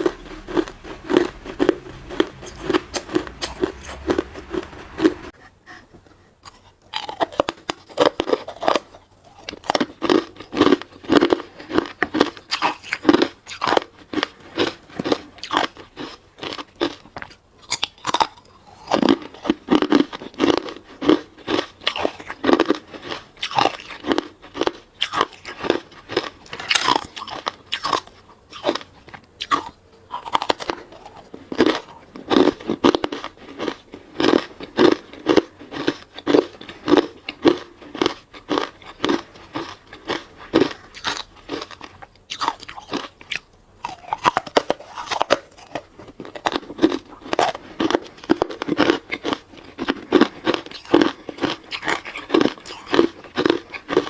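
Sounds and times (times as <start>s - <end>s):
chewing hard ice: 0.0s - 5.8s, 6.4s - 54.0s.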